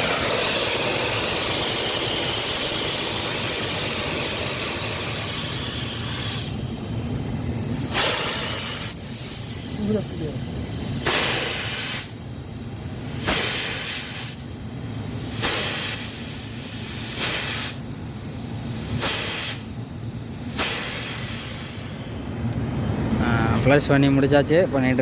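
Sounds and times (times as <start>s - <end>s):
pressurised gas hissing from a line: 0.0s - 22.3s.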